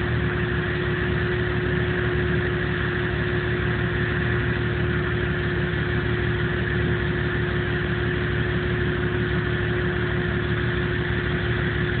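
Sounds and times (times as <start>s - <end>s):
car engine idling roughly: 0.0s - 12.0s.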